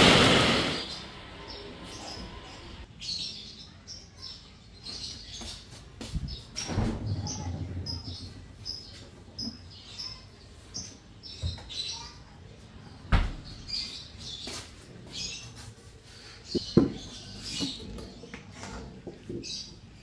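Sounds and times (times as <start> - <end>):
small birds chirping: 0.6 - 20.0.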